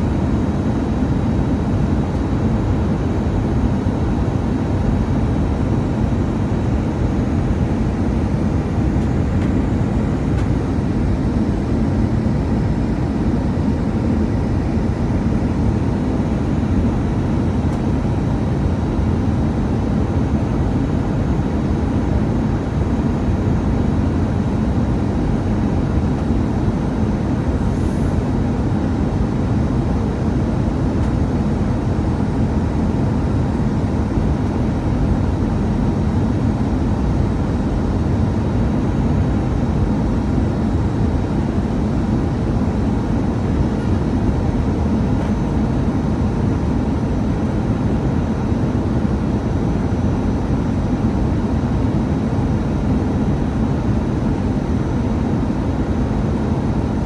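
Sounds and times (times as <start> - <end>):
airliner cabin air rush and engine hum: 0.0 - 57.0.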